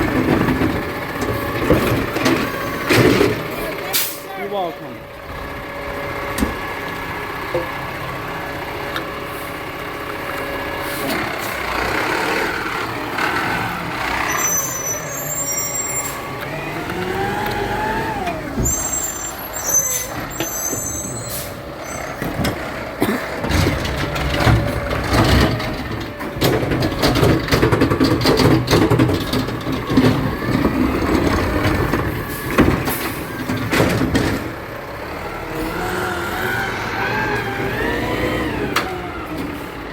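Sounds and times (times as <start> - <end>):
garbage truck engine: 0.0 - 39.9.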